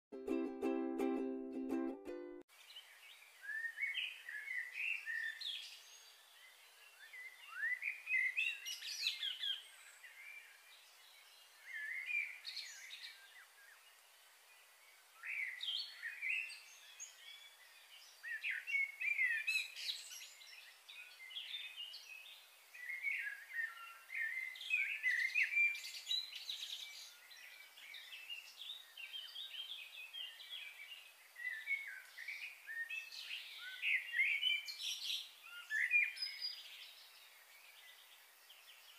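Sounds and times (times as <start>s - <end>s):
small birds chirping: 1.7s - 38.9s.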